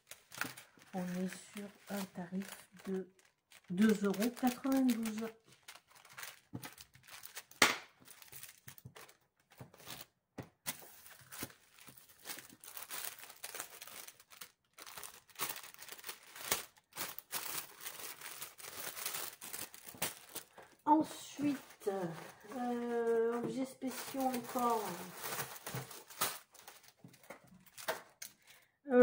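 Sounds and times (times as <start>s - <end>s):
plastic bags crinkling: 0.0s - 28.6s.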